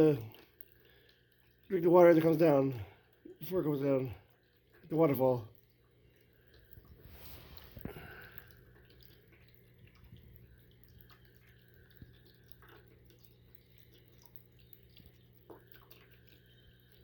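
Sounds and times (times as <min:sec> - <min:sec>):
water fountain dripping: 0:00.0 - 0:07.0, 0:07.8 - 0:17.0
rabbit lapping water: 0:00.0 - 0:17.0.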